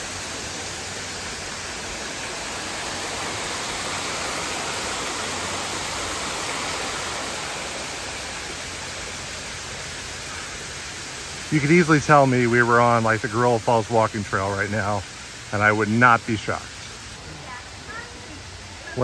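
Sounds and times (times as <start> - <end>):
water pouring down waterfall: 0.0 - 19.0.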